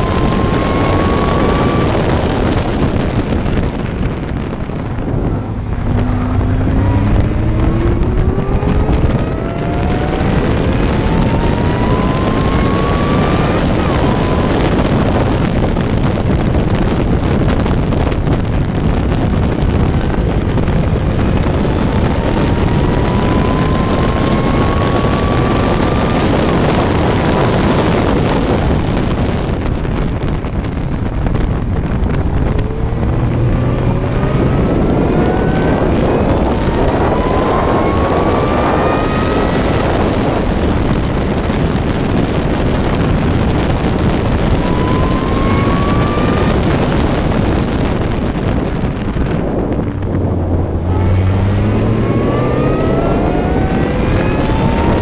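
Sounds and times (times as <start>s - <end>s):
racing engine at full throttle: 0.0s - 55.0s
wind noise on microphone: 0.0s - 55.0s.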